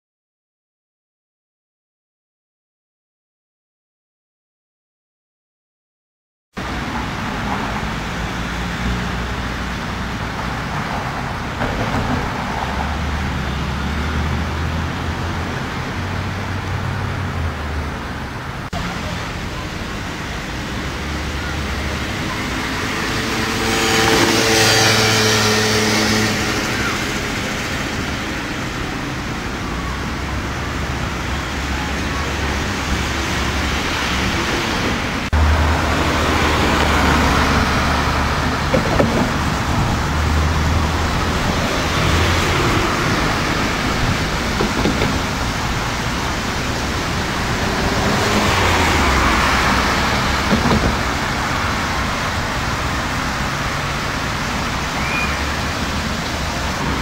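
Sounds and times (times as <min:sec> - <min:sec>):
cars driving past: 0:06.6 - 0:57.0.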